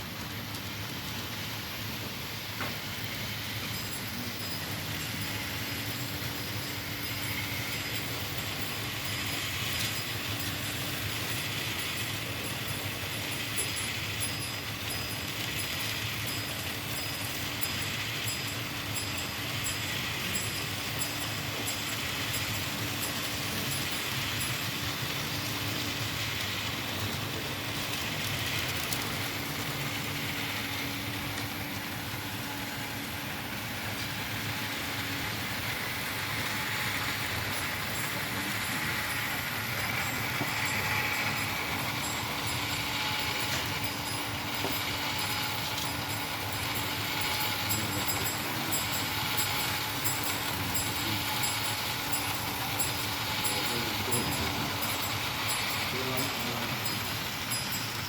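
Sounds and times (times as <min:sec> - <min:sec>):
small electric motors whining: 0:00.0 - 0:58.0
steady hum: 0:00.0 - 0:58.0.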